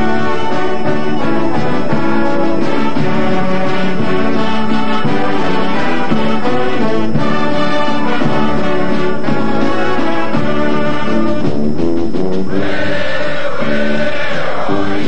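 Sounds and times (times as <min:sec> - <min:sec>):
marching band playing brass: 0:00.0 - 0:15.0.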